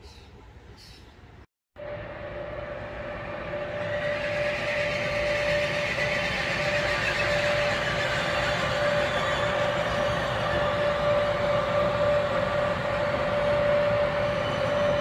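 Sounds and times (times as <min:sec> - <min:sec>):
locomotive approaching on track: 0:00.4 - 0:15.0
steady hum: 0:01.8 - 0:15.0.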